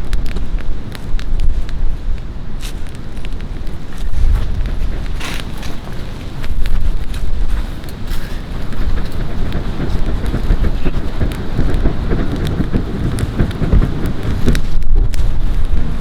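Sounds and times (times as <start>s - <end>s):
campfire crackling: 0.0s - 16.0s
wind buffeting microphone: 0.0s - 16.0s.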